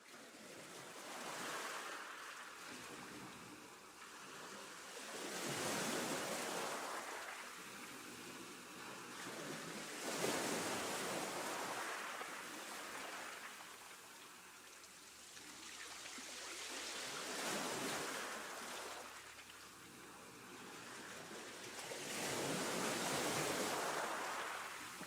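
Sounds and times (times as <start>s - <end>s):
steady sea wash: 0.1s - 25.0s
sea water surging: 0.9s - 25.0s.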